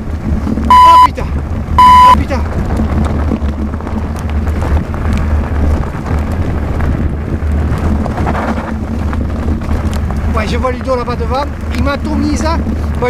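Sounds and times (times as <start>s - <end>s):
bike clicks and rattles: 0.0s - 13.0s
wind buffeting microphone: 0.0s - 13.0s.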